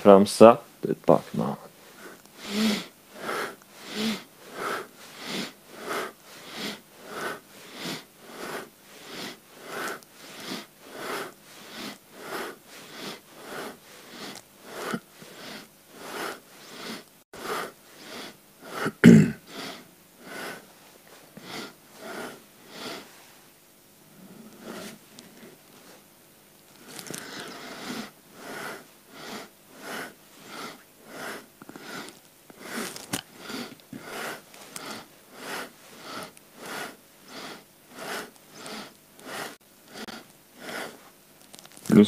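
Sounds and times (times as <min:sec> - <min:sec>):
quick audible breathing: 0:01.8 - 0:20.7, 0:21.3 - 0:23.2, 0:24.2 - 0:25.5, 0:26.8 - 0:41.1.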